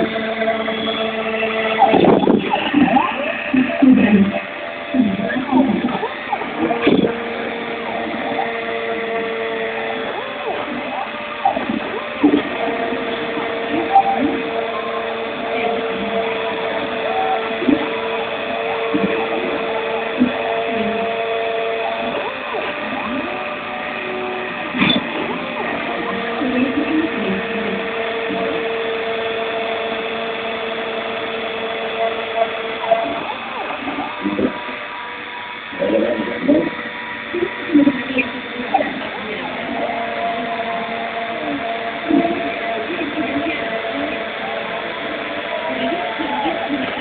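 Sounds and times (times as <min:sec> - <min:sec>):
mechanical hum: 0:00.0 - 0:47.0
stepper motors whining: 0:00.0 - 0:47.0.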